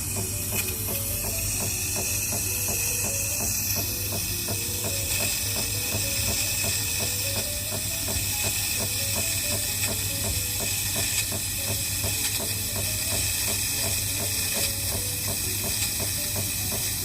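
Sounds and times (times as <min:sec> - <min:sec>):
espresso machine steam hiss: 0:00.0 - 0:17.0.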